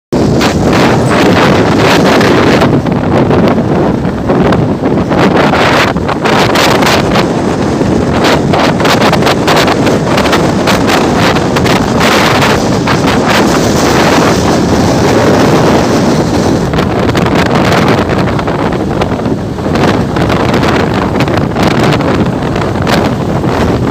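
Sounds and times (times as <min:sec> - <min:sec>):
wind buffeting microphone: 0:00.1 - 0:23.9
sharp crackles and rattles: 0:00.2 - 0:23.9.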